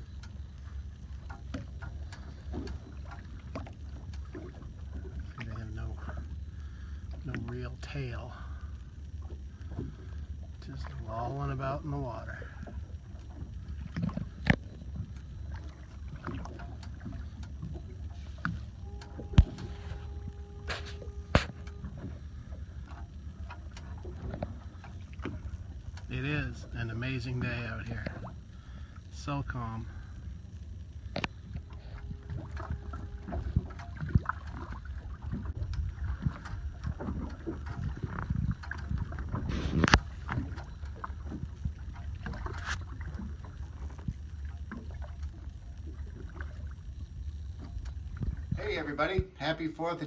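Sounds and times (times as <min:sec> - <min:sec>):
motor boat idling rumble: 0:00.0 - 0:50.0
steady humming tone: 0:00.0 - 0:50.0
water splashing against hull: 0:00.0 - 0:50.0.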